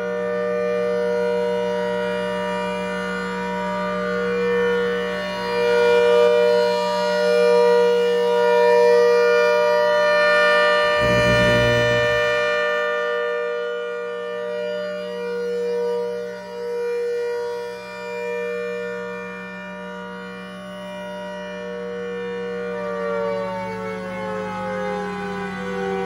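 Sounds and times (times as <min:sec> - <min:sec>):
rotating warning siren wailing: 0:00.0 - 0:26.0.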